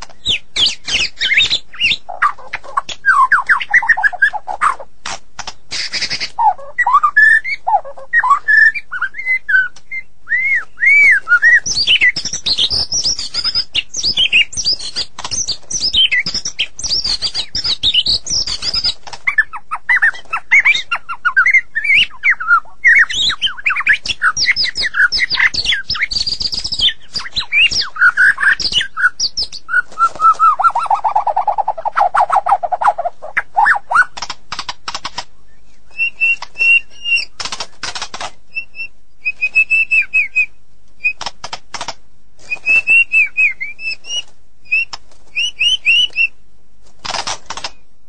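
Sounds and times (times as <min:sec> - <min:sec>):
songbird singing varied song: 0:00.0 - 0:04.9, 0:05.5 - 0:41.3, 0:42.4 - 0:46.4.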